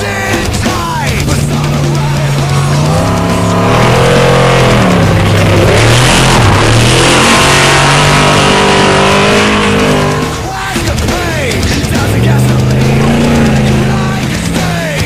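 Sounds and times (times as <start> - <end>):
engine revving hard: 0.0 - 15.0.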